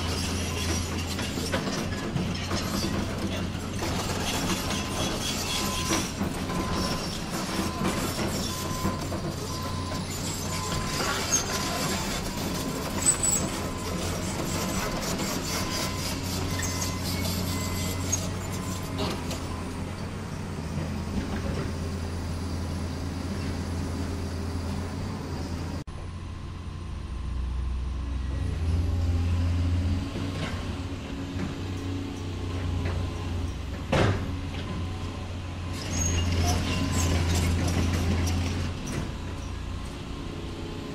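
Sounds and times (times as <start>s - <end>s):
model excavator motors and gears: 0.0s - 40.9s.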